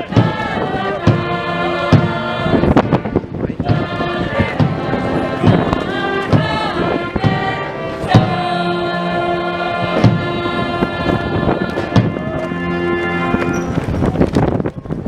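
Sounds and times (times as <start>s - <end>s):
drum beats: 0.0s - 8.6s, 9.8s - 13.4s
brass band playing: 0.0s - 13.9s.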